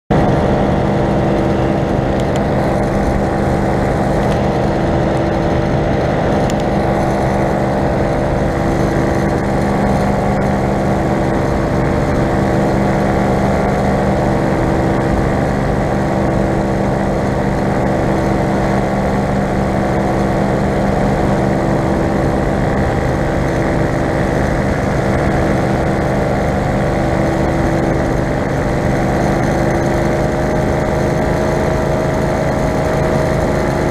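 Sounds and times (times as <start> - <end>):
paramotor engine running: 0.1 - 33.9.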